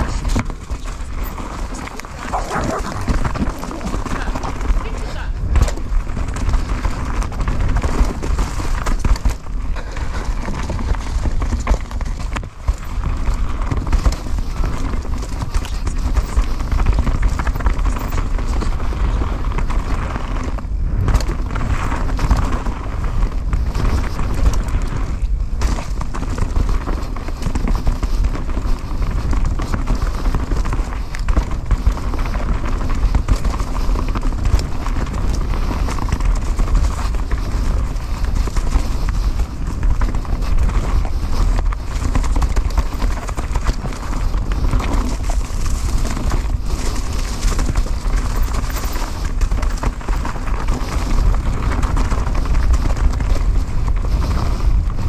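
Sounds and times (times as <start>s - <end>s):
bike rattling and knocking: 0.0s - 55.0s
tyres running over dirt: 0.0s - 55.0s
wind noise rumble: 0.0s - 55.0s.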